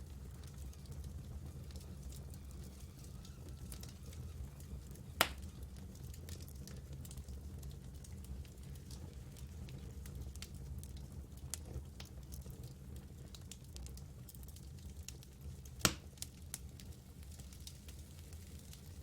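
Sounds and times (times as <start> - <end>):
campfire crackling and popping: 0.0 - 19.0
fire low rumble: 0.0 - 19.0.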